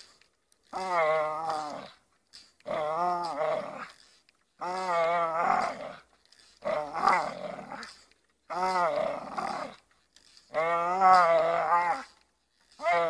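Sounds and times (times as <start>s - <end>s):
dog growling: 0.7s - 2.0s, 2.6s - 13.0s.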